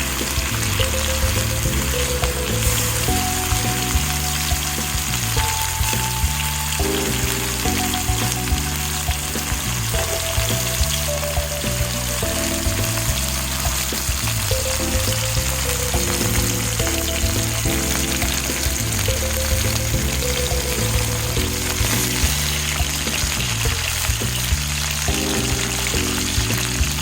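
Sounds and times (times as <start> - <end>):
background music: 0.0 - 27.0
food sizzling in hot oil: 0.0 - 27.0.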